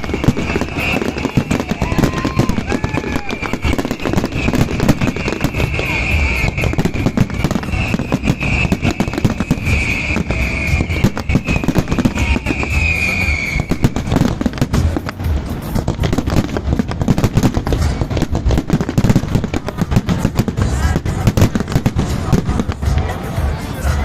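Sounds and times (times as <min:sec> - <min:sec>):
fireworks bangs and crackles: 0:00.0 - 0:24.0
high whistling of fireworks: 0:00.0 - 0:24.0.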